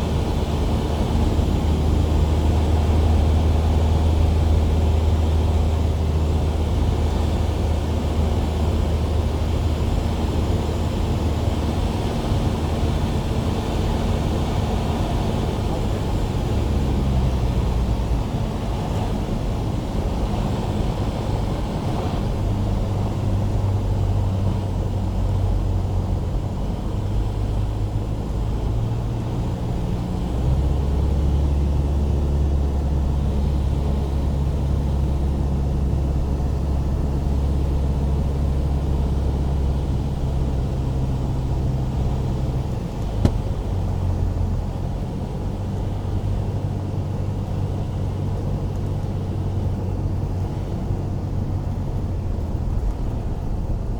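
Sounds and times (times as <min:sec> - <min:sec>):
propeller plane engine drone: 0:00.0 - 0:53.9.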